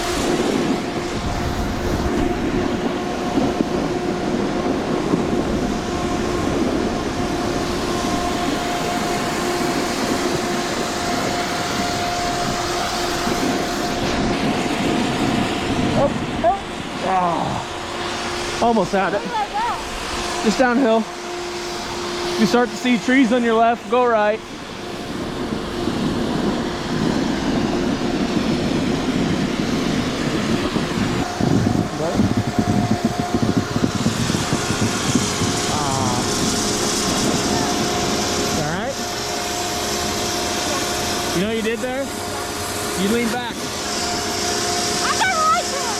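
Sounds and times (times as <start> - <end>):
snowmaking fan roaring: 0.0 - 45.9
wind on microphone: 0.0 - 45.9.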